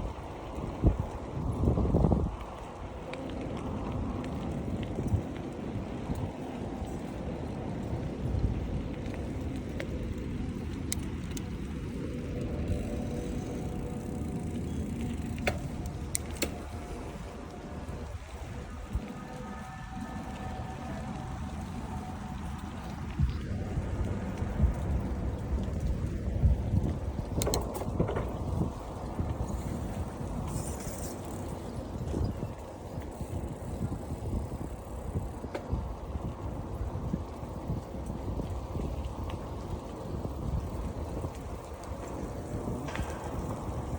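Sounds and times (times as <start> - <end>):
wind and road noise: 0.0 - 43.9.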